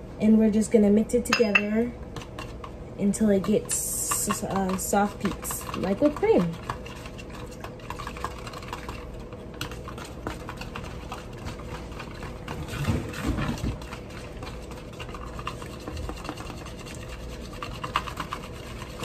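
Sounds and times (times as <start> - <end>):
whisk beating cream in bowl: 1.3 - 19.0.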